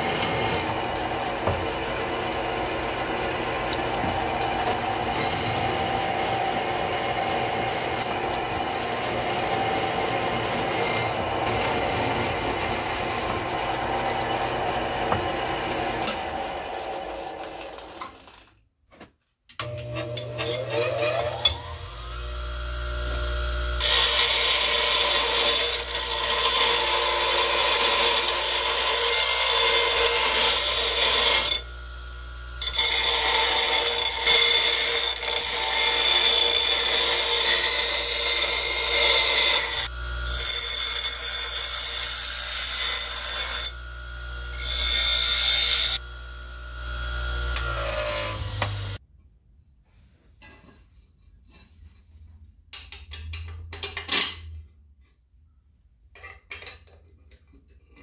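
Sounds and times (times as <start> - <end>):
bench grinder motor whine: 0.0 - 18.3, 19.6 - 49.0
steel bar grinding on wheel: 0.0 - 18.3, 19.6 - 49.0.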